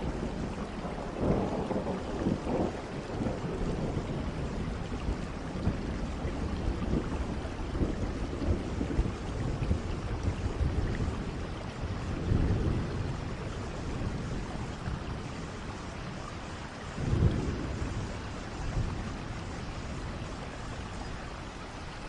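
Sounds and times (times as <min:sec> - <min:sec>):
thunder rumbling: 0:00.0 - 0:21.3
steady rain falling: 0:00.0 - 0:22.0.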